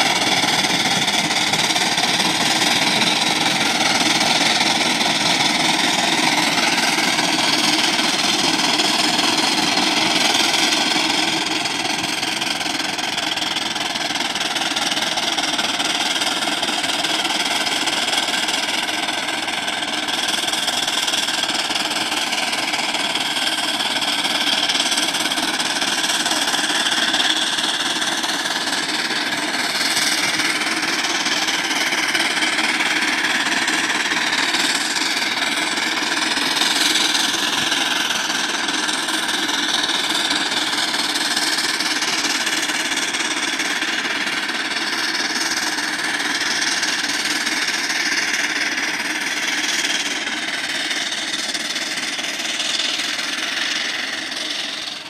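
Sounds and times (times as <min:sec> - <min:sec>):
steam traction engine running: 0:00.0 - 0:55.0.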